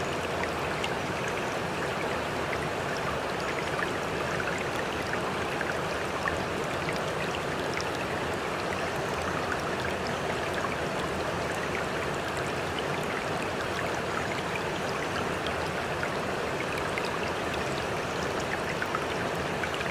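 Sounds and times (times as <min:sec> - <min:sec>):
small waterfall splashing: 0:00.0 - 0:19.9.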